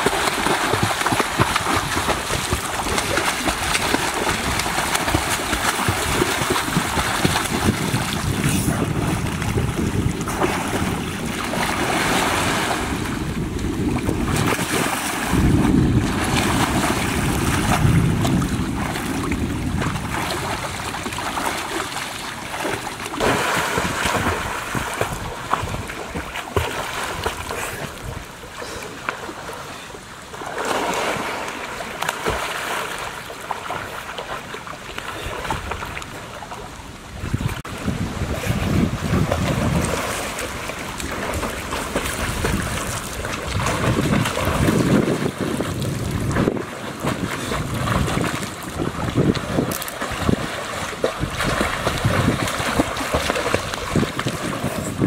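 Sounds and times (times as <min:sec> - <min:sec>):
water splashing from swimming: 0:00.0 - 0:55.0.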